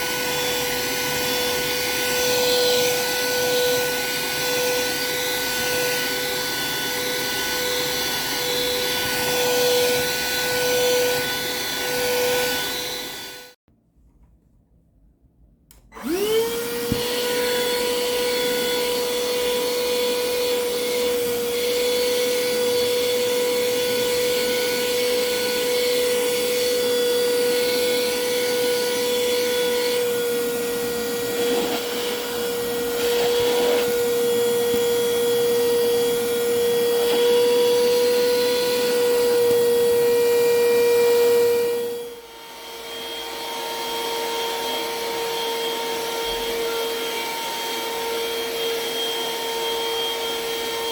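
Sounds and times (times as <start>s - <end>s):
vacuum motor whine: 0.0s - 13.6s, 15.9s - 50.9s.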